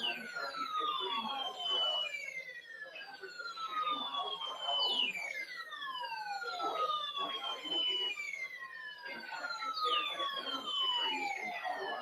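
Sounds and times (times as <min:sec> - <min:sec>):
weather radio audio: 0:00.0 - 0:02.1, 0:02.8 - 0:12.0
descending siren-like electronic tones: 0:00.0 - 0:12.0.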